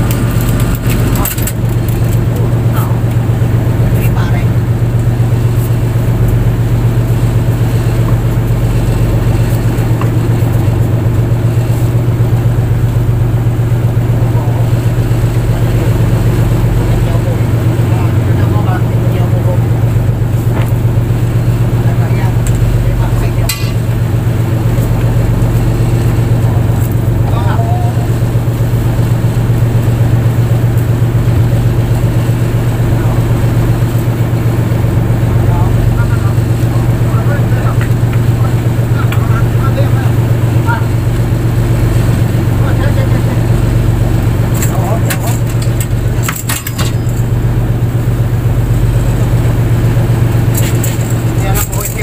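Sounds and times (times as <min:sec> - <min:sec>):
boat engine humming: 0:00.0 - 0:52.0.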